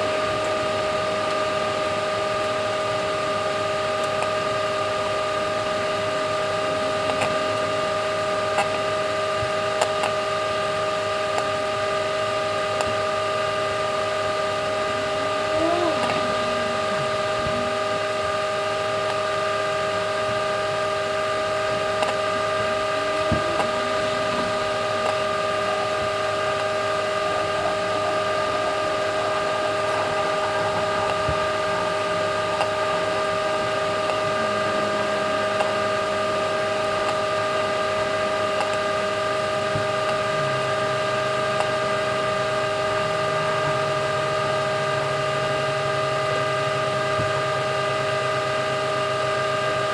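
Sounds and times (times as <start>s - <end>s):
microwave oven humming: 0.0s - 49.9s.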